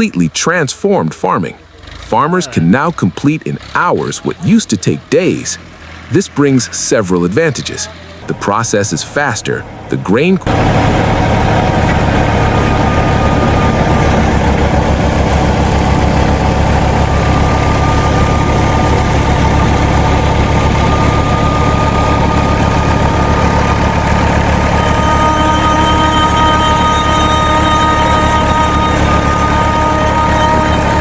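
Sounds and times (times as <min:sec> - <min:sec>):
thin steady whine: 0:00.0 - 0:31.0
tractor engine under load: 0:00.0 - 0:31.0.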